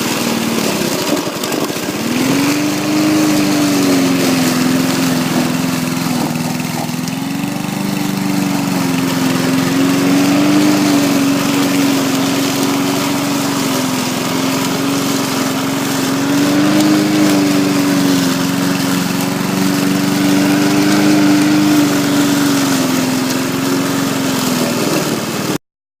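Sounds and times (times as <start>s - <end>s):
lawnmower running: 0.0s - 25.6s.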